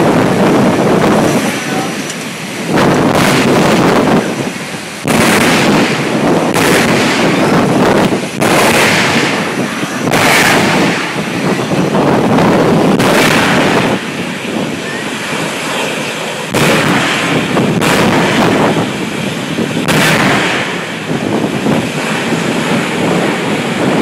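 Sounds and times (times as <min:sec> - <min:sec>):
jet engine exhaust blasts: 0:00.0 - 0:24.0.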